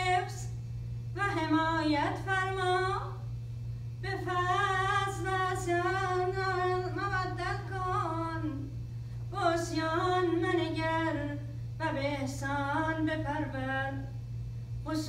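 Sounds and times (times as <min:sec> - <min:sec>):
low hum: 0:00.0 - 0:15.0
woman chanting: 0:01.2 - 0:03.3, 0:04.0 - 0:14.2.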